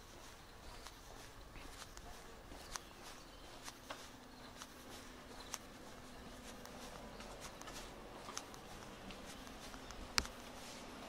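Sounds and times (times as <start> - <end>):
footsteps on concrete: 0.0 - 11.0
outdoor background noise: 0.0 - 11.0.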